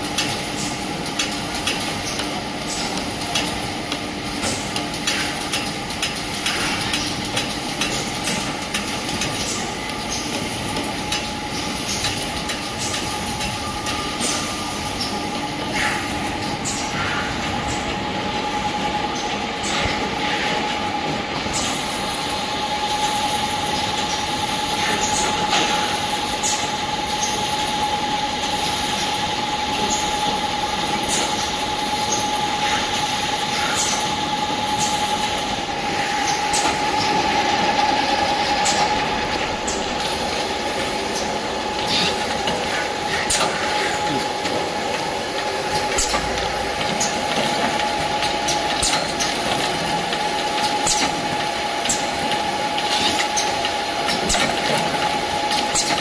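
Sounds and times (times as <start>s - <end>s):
machine running with whine: 0.0s - 56.0s.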